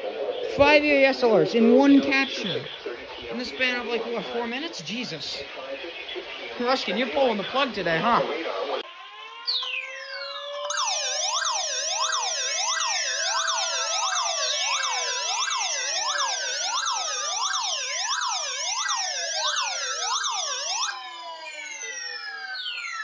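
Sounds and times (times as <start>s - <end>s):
siren yelp: 0.0s - 23.0s
siren wail: 0.4s - 23.0s.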